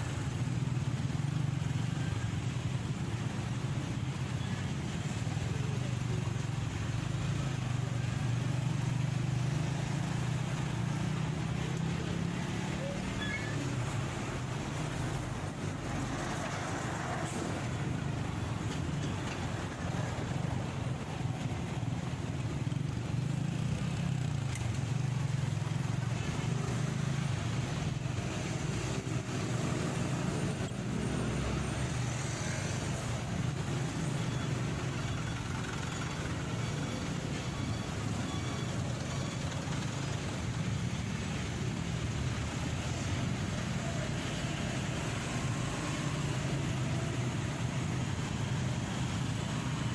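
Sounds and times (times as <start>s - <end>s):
road and traffic noise: 0.0s - 49.9s.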